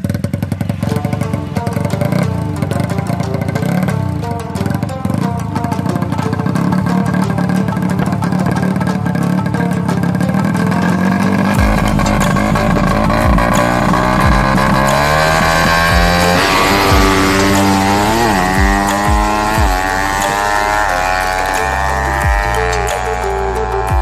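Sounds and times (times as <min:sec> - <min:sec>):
background music: 0:00.0 - 0:24.0
motorcycle engine running loudly: 0:00.0 - 0:24.0.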